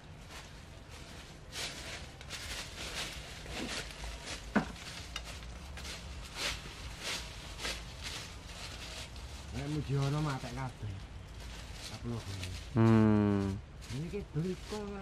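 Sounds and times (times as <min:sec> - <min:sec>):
dry leaves crunching: 0:00.0 - 0:15.0.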